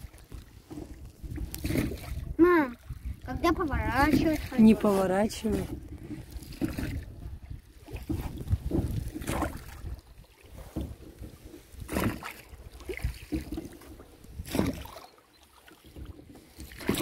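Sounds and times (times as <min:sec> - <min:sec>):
wind rumble on microphone: 0:00.0 - 0:14.9
oars splashing in water: 0:00.0 - 0:17.0.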